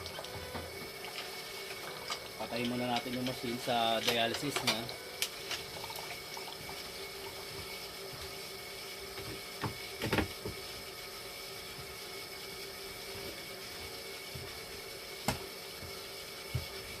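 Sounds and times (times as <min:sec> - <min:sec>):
machine hum with high tones: 0:00.0 - 0:17.0.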